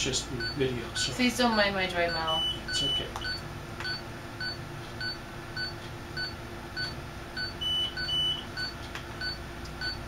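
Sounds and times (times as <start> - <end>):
patient monitor pulse beeps: 0.4 - 1.2, 1.9 - 10.0.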